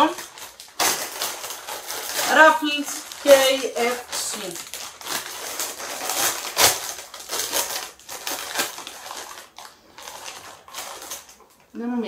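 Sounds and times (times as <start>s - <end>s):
bag popping: 0.0s - 11.5s
chip bag crinkling: 0.0s - 11.8s.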